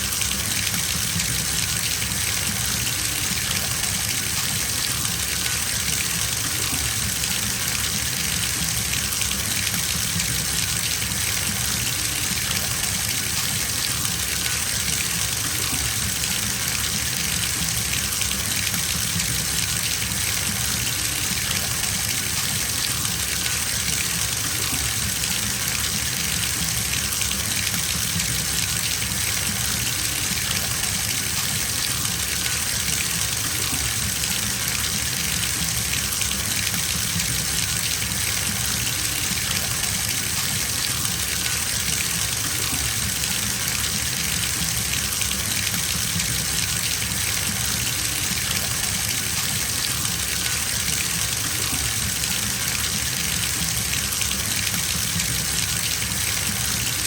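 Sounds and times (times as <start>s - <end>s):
water gushing into bathtub: 0.0s - 57.0s.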